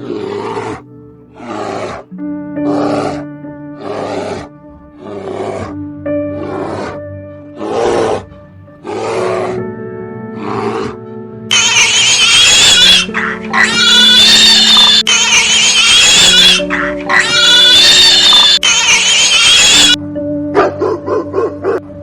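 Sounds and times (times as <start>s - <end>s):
large animal harsh calls: 0.0s - 7.0s, 7.6s - 9.7s, 10.3s - 20.0s
background music: 0.0s - 22.0s.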